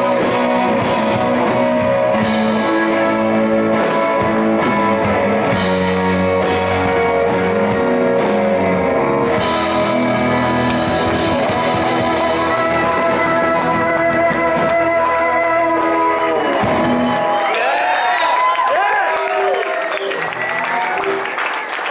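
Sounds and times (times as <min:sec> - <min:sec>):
live rock band playing: 0:00.0 - 0:18.6, 0:19.4 - 0:21.6.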